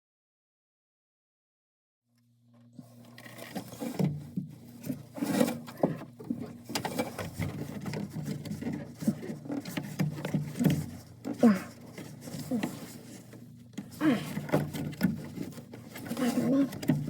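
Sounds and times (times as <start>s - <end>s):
washing machine motor hum: 2.5s - 17.0s.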